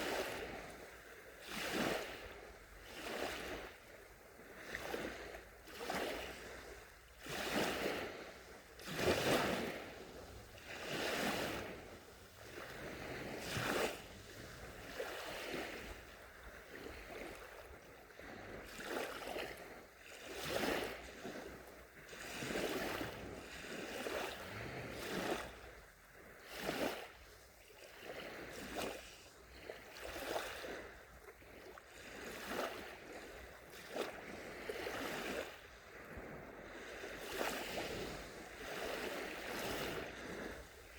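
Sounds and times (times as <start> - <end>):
small waves washing onto shore: 0.0 - 40.9.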